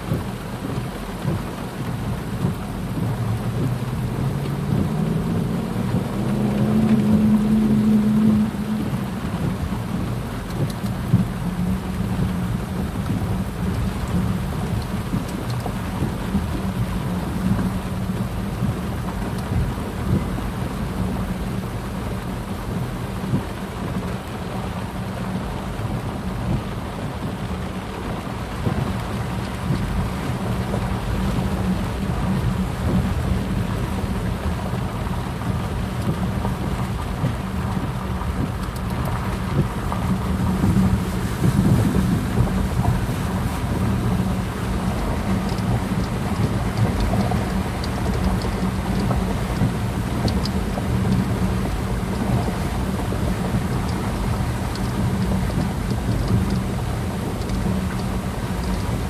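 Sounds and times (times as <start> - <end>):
flowing water: 0.0 - 59.0
heavy rain: 0.0 - 59.0
deep low rumble: 2.0 - 21.5, 28.6 - 59.0.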